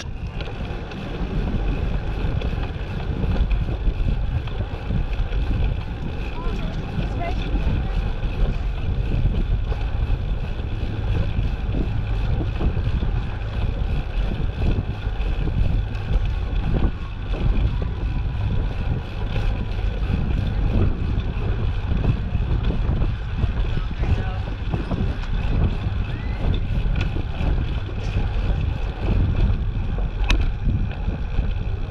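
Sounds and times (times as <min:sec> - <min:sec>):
wind rumble on microphone: 0:00.0 - 0:31.9.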